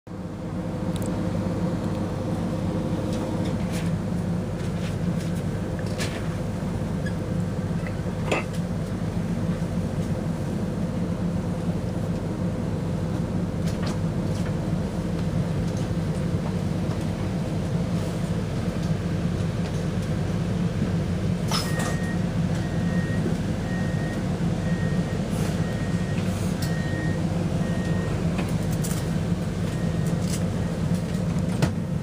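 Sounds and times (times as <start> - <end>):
train rumbling: 0.1 - 32.0.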